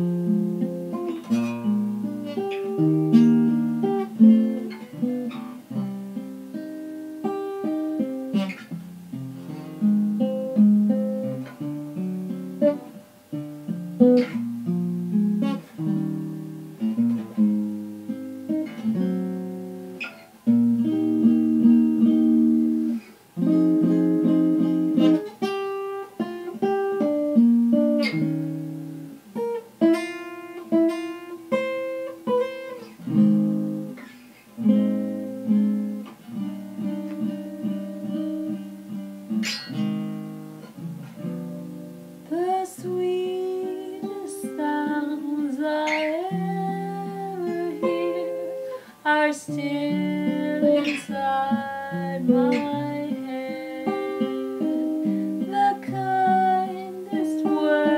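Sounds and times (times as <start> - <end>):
guitar picked notes and chords: 0.0 - 57.9.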